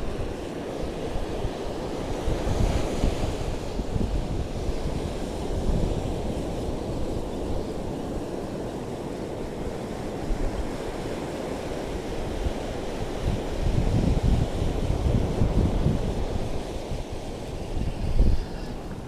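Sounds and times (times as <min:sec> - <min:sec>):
sea surf: 0:00.0 - 0:19.0
wind buffeting microphone: 0:00.0 - 0:19.0.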